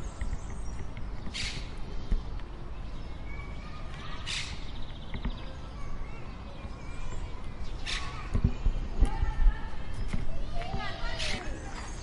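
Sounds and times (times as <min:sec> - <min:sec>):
small bird singing: 0:00.0 - 0:12.0.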